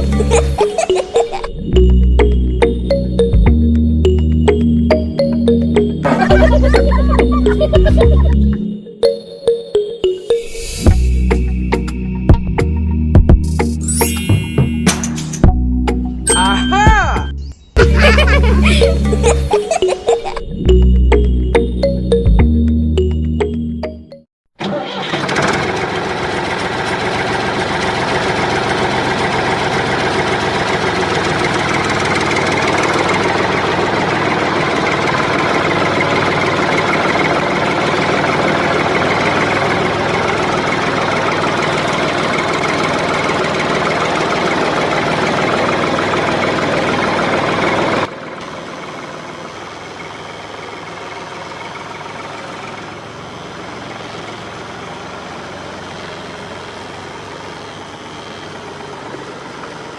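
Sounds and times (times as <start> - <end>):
engine running: 0.0 - 8.9, 17.8 - 59.9.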